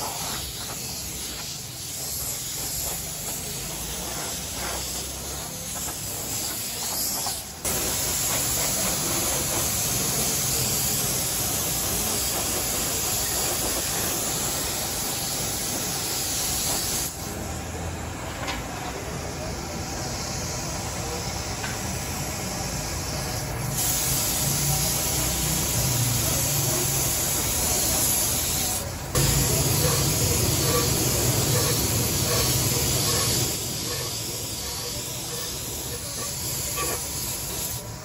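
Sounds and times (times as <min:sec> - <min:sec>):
paint spray gun hissing: 0:00.0 - 0:17.4, 0:19.4 - 0:38.0.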